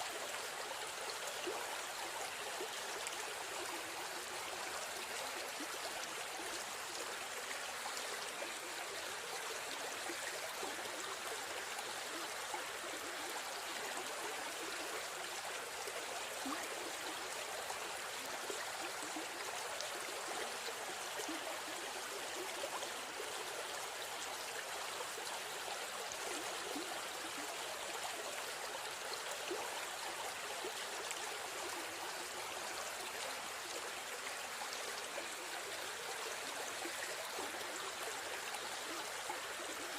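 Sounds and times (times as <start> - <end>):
river stream running: 0.0 - 39.9.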